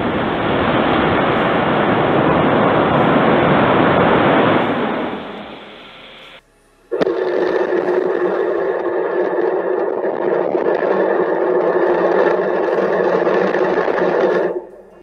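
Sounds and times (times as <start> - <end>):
rocket engines roaring: 0.0 - 15.0.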